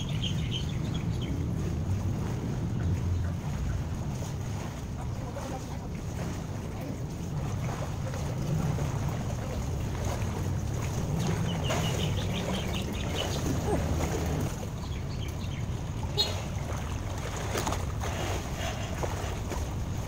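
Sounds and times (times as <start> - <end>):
pool water splashing: 0.0 - 20.0
wind rumble on microphone: 0.0 - 20.0.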